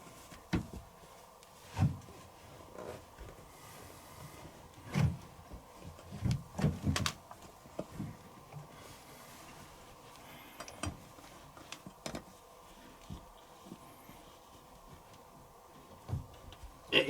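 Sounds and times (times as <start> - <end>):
fabric rustling: 0.0 - 16.9.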